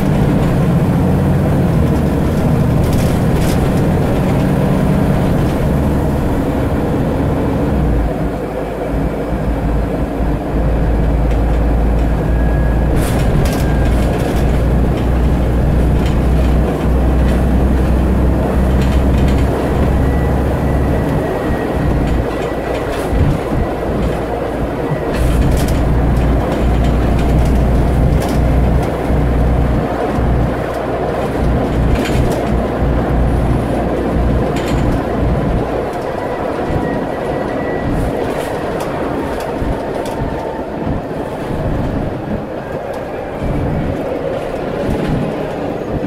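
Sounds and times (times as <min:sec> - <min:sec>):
bus engine and road drone: 0:00.0 - 0:46.0.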